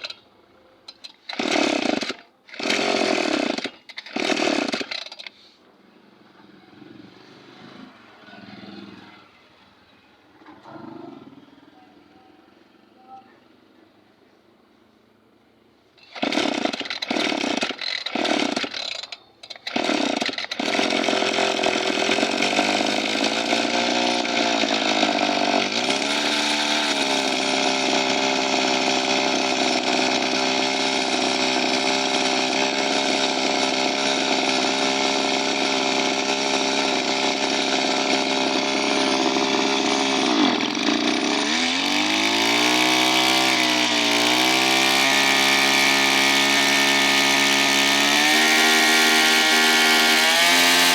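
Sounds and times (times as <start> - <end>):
small two-stroke engine: 0.9 - 9.4, 16.0 - 50.9.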